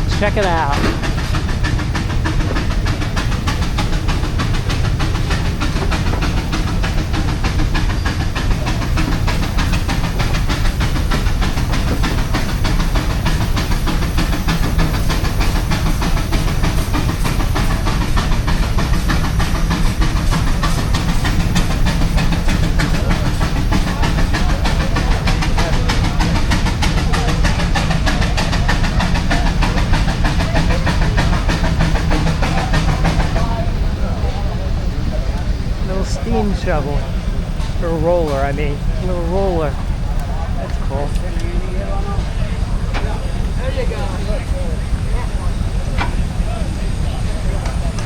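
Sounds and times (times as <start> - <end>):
steam engine rumble: 0.0 - 48.0
steam hissing: 0.0 - 48.0.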